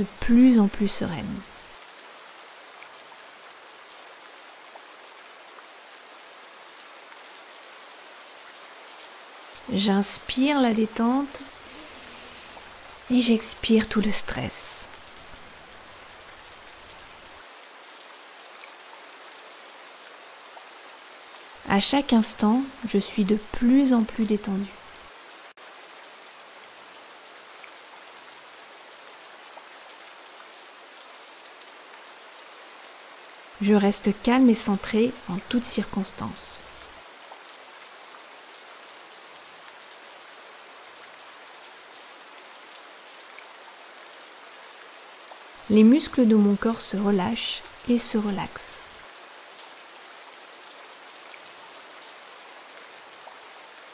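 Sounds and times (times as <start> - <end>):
steady rain in a forest: 0.0 - 53.9.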